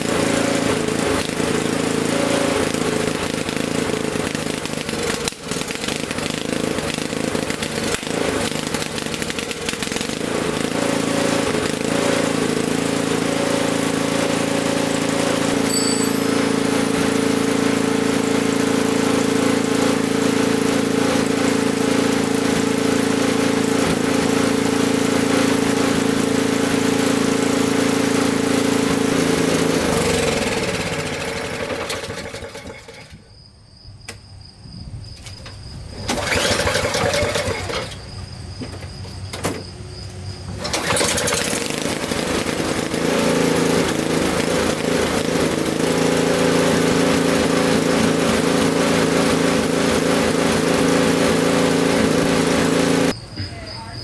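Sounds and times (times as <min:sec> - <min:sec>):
snowblower engine running: 0:00.0 - 0:33.2, 0:35.9 - 0:38.1, 0:40.5 - 0:53.2.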